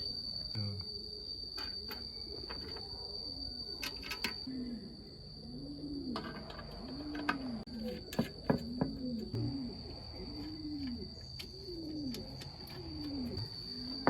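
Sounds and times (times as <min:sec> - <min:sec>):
high insect drone: 0:00.0 - 0:14.0
dove cooing: 0:00.8 - 0:14.0.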